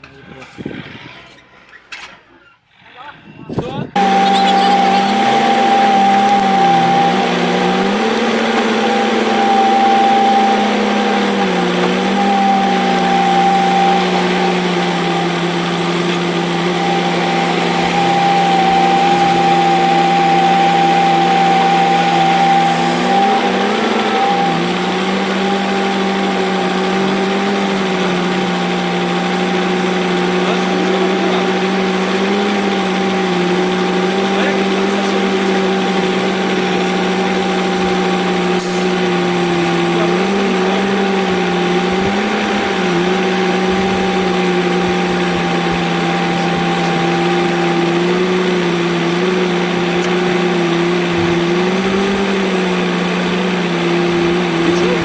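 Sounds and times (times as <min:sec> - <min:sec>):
tractor engine running: 0:04.0 - 0:55.0.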